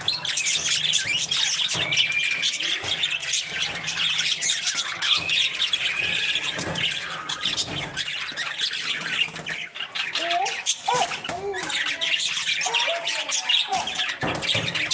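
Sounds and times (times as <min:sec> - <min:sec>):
parrots chattering: 0:00.0 - 0:14.9.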